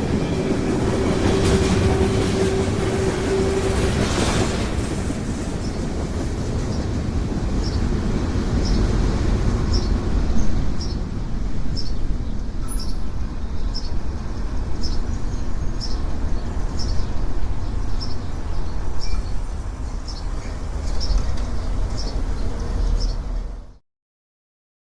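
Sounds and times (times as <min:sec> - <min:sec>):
train cars rolling past: 0:00.0 - 0:23.8.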